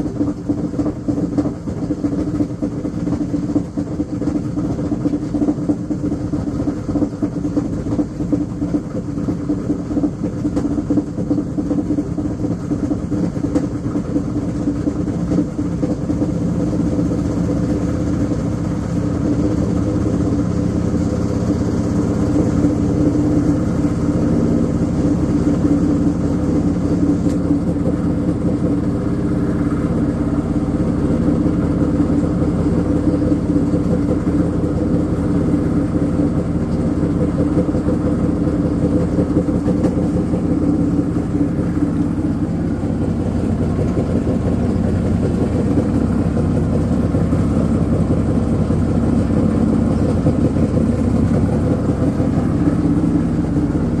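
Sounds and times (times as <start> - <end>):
washing machine running: 0.0 - 54.0.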